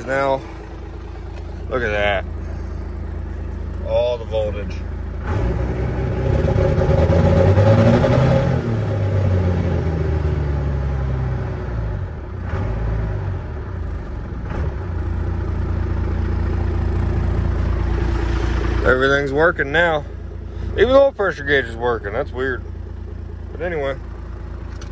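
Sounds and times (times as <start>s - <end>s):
diesel engine revving and idling: 0.0s - 24.9s.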